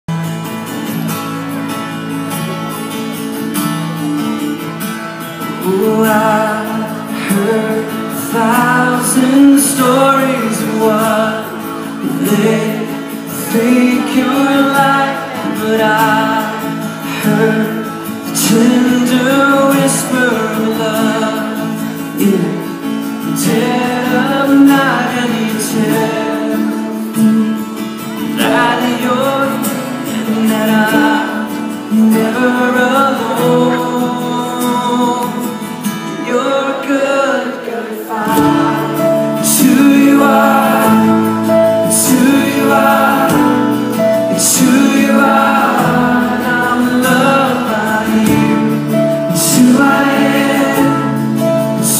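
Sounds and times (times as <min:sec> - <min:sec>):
live band with guitar: 0:00.1 - 0:51.9
person singing: 0:05.4 - 0:51.9.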